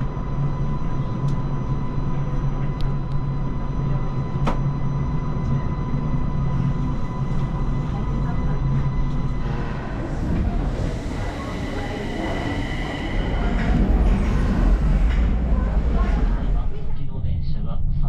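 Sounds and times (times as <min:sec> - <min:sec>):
train running with rumble and whine: 0:00.0 - 0:18.0.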